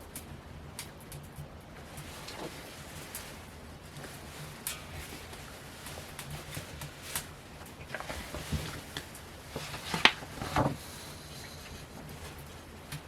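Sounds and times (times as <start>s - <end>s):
paper rustling: 1.9s - 12.5s.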